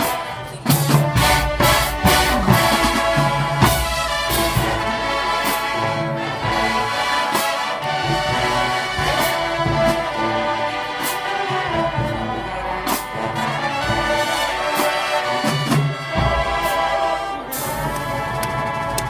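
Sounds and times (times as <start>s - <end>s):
brass section playing chords: 0.0s - 19.0s
drum and cymbal hits: 0.0s - 19.0s.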